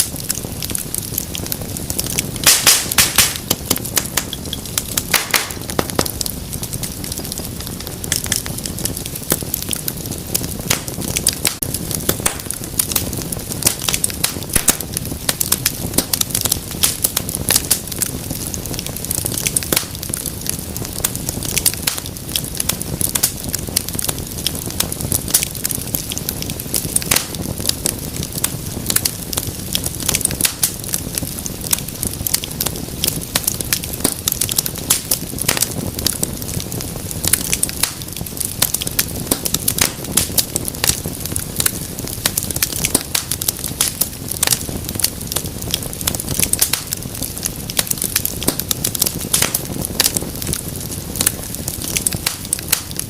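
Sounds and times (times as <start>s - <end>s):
fire pops and snaps: 0.0s - 53.0s
wood fire crackling: 0.0s - 53.0s.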